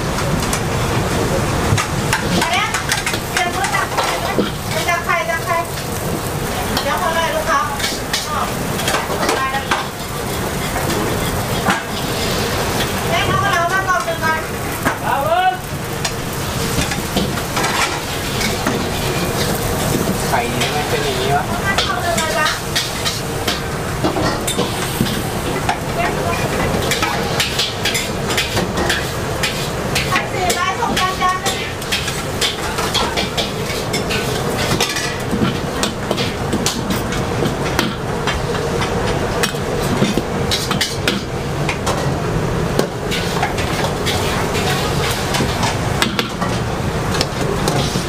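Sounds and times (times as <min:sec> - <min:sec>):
frying sizzle: 0:00.0 - 0:48.0
ladle scraping a wok: 0:05.7 - 0:13.4, 0:15.8 - 0:41.3, 0:42.8 - 0:48.0.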